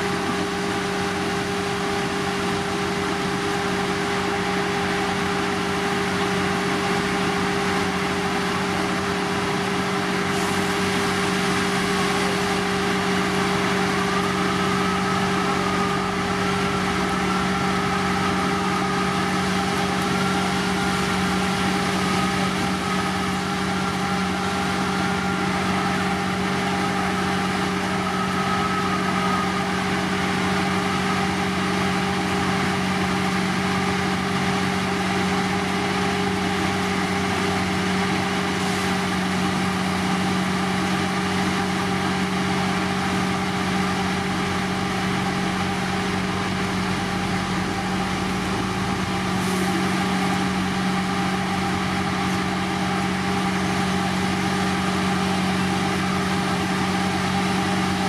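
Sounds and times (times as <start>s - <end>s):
diesel engine running steadily: 0.0s - 58.0s.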